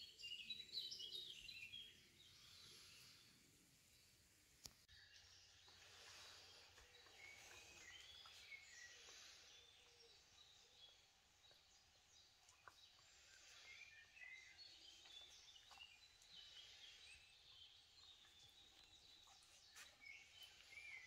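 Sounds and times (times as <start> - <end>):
small birds twittering: 0.0 - 21.0.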